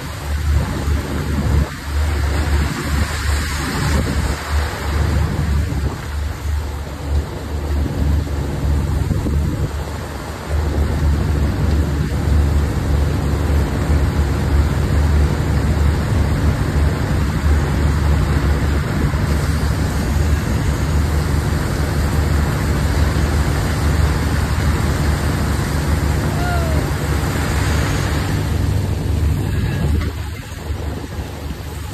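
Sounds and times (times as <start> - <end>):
machinery engine droning: 0.0 - 31.9.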